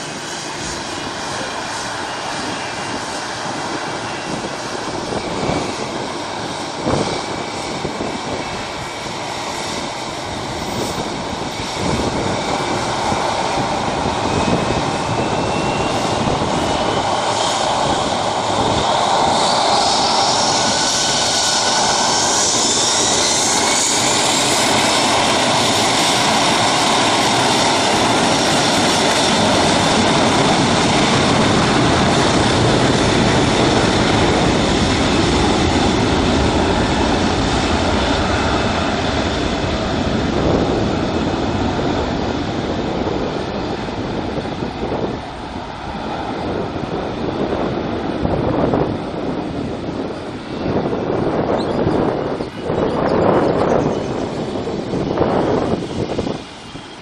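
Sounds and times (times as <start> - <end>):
high jet engine whine: 0.0 - 57.0
jet engine roar: 0.0 - 57.0.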